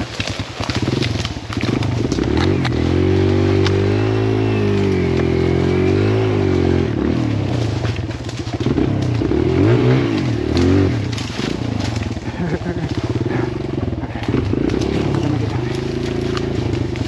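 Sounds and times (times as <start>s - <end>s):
dirt bike engine revving: 0.0s - 17.0s
knocks and rattles from bike: 0.0s - 17.0s.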